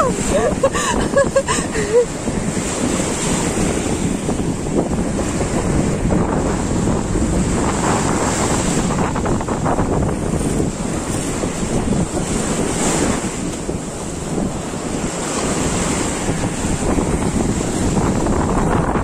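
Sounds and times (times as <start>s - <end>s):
sea waves washing: 0.0s - 19.0s
wind rumbling on microphone: 0.0s - 19.0s.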